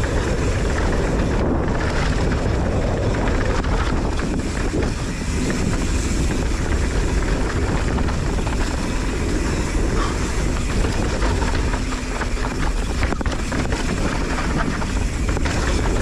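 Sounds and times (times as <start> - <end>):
bike chain and frame rattling: 0.0 - 16.0
tyres rolling over rough ground: 0.0 - 16.0
wind rushing over microphone: 0.0 - 16.0.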